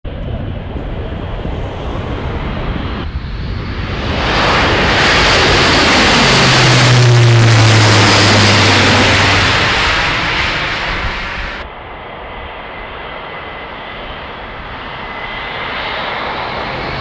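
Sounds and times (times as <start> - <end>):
turboprop aircraft flying over: 0.1 - 17.0.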